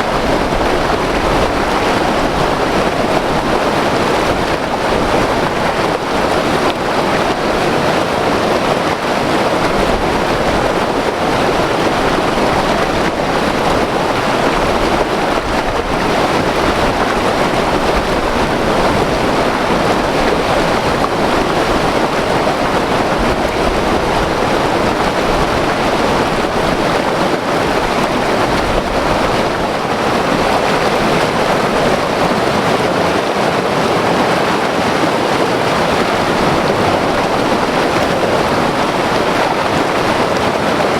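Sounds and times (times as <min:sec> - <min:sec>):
river rushing over rapids: 0:00.0 - 0:40.9.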